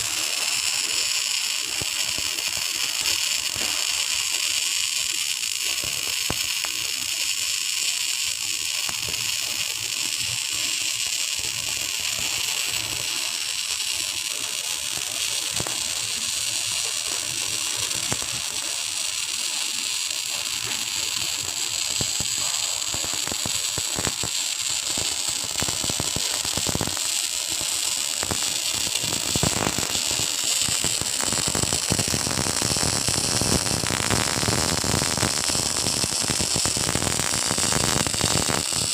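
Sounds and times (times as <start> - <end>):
sharp welding pops: 0.0 - 38.9
welding arc crackling: 0.0 - 38.9.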